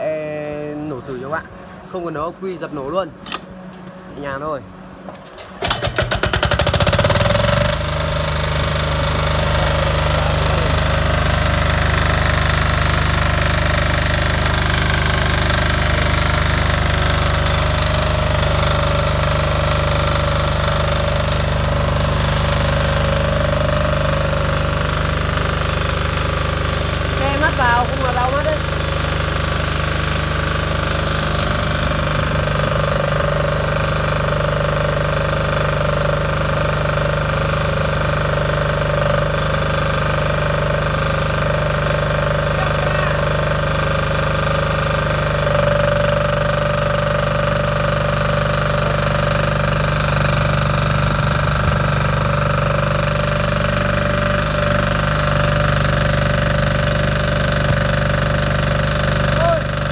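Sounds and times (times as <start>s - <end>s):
diesel generator knocking: 5.1s - 59.9s
welding arc crackling: 6.0s - 59.9s.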